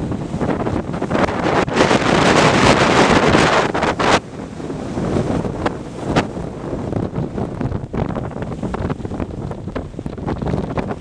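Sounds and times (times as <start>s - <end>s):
sea water rushing along hull: 0.0s - 11.0s
wind buffeting microphone: 0.0s - 11.0s.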